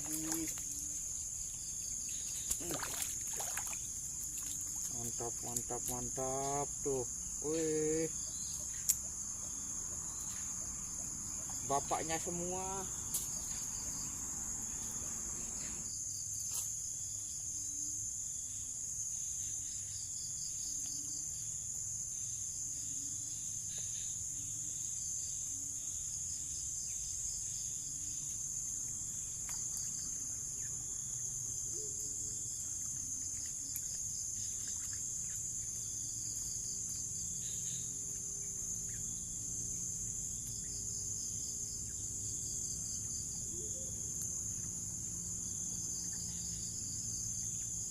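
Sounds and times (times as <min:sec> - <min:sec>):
high-pitched insect drone: 0:00.0 - 0:16.2, 0:21.0 - 0:47.9
pulsing insect trills: 0:00.0 - 0:47.9.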